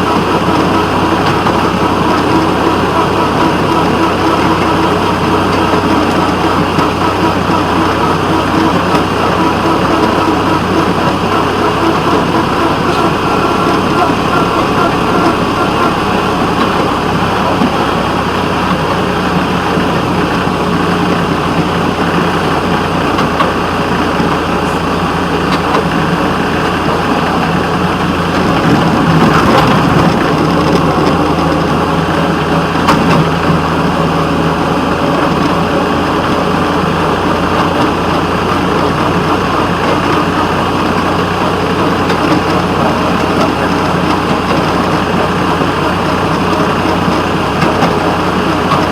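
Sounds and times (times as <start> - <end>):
locomotive engine drone: 0.0 - 48.9
rolling rail noise: 0.0 - 48.9.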